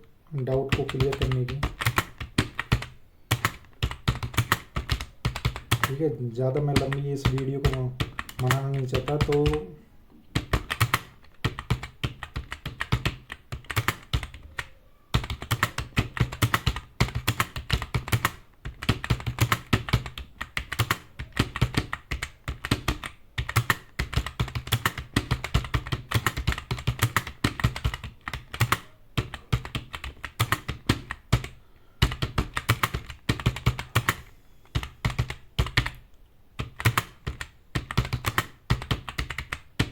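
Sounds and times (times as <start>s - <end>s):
fast typing on keyboard: 0.4s - 36.0s, 36.6s - 39.9s.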